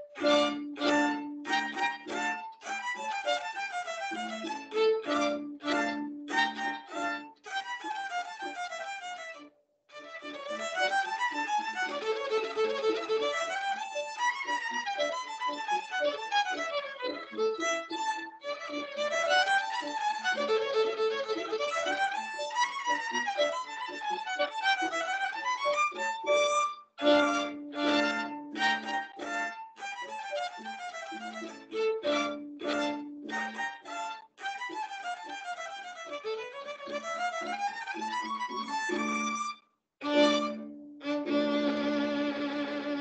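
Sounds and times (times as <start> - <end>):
violin playing quick runs: 0.0 - 43.0.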